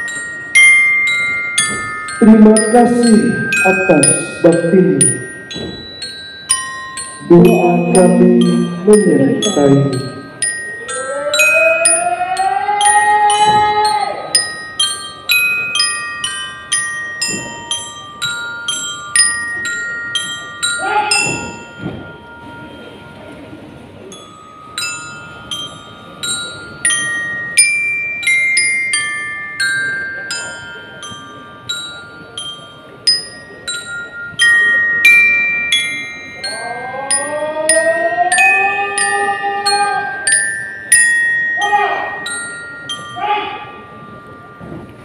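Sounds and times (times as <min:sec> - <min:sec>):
bell lyres playing slow melody: 0:00.0 - 0:45.0.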